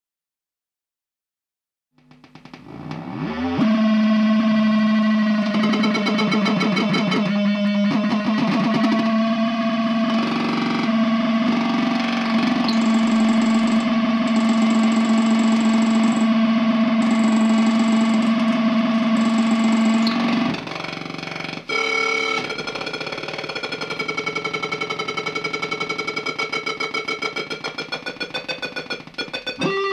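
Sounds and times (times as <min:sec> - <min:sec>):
synthesizer low drone: 0:02.2 - 0:29.9.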